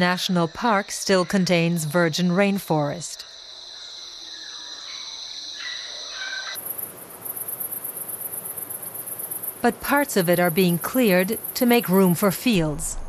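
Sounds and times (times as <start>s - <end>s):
fast-pulsing insect trill: 0.0s - 12.6s
high insect chorus: 0.0s - 12.6s.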